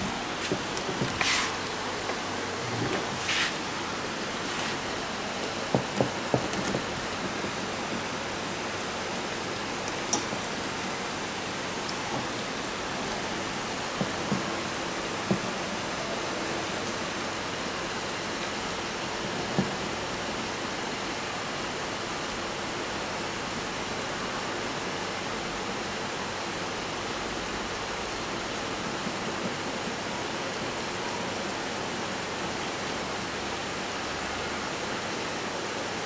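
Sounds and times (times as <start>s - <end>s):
steady background hiss: 0.0s - 36.0s.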